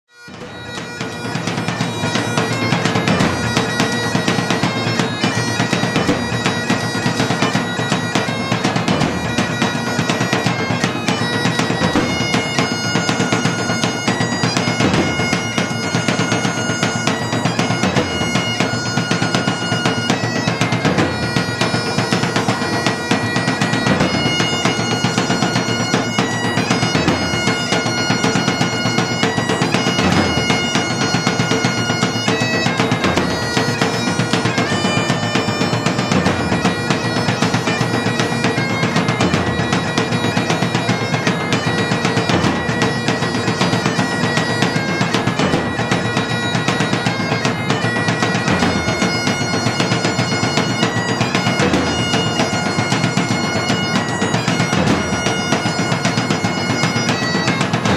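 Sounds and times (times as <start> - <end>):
bagpipe melody with drone: 0.1 - 57.9
drum beat: 0.3 - 57.9.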